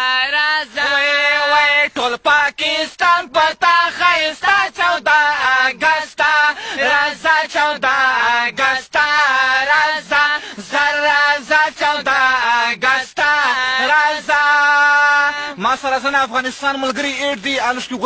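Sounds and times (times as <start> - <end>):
men singing unaccompanied: 0.0 - 18.0.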